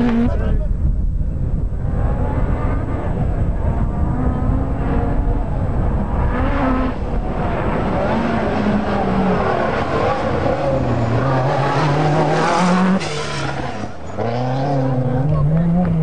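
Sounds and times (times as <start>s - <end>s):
rally car engines running hard: 0.0s - 16.0s.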